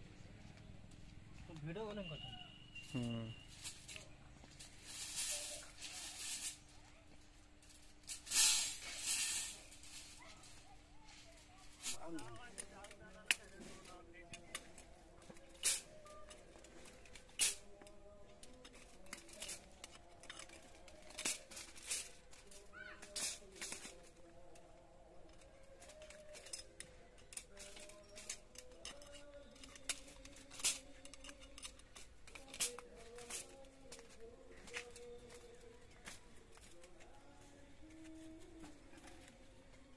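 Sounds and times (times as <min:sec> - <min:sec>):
faint background voices: 0:00.0 - 0:39.9
metal wire mesh clinking: 0:02.8 - 0:06.6, 0:07.6 - 0:37.2.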